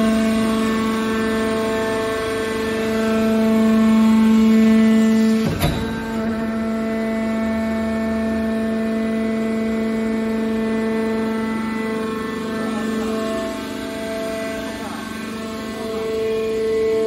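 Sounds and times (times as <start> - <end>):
hydraulic power unit whine: 0.0 - 17.0.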